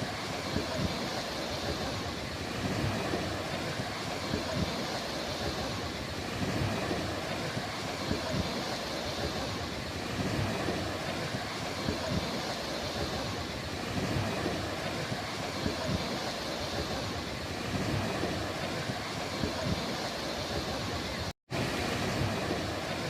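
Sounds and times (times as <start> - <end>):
ocean surf: 0.0 - 23.0
wind rumble on microphone: 0.0 - 23.0.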